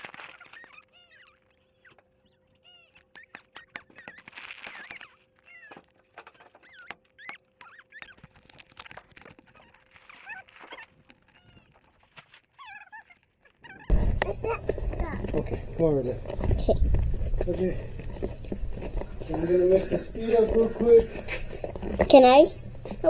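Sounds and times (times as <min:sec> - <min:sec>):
small birds chirping: 0:00.0 - 0:11.8, 0:12.6 - 0:23.0.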